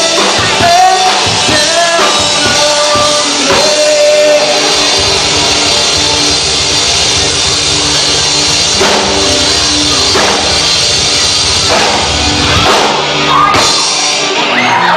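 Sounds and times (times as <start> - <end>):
loud rock band music: 0.0 - 14.9.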